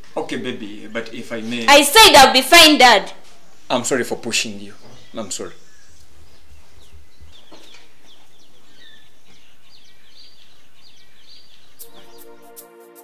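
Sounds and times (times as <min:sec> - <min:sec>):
birds chirping: 0:00.0 - 0:12.6
outdoor background hiss: 0:00.0 - 0:12.8.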